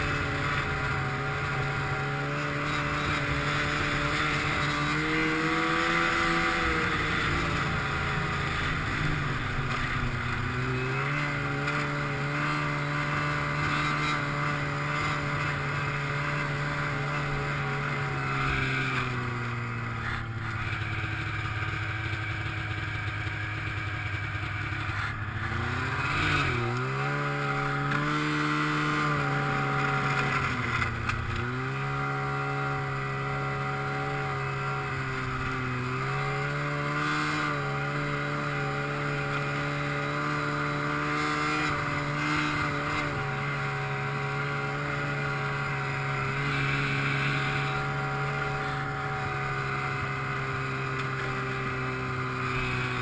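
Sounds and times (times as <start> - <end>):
snowmobile engine running: 0.0 - 53.0.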